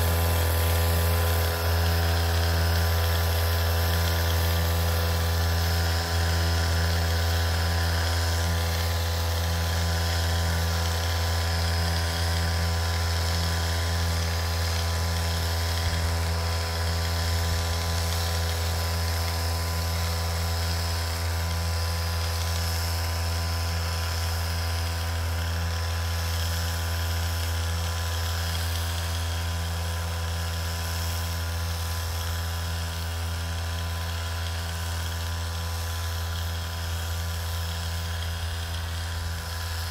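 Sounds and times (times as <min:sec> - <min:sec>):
sprayer pump humming: 0:00.0 - 0:39.9.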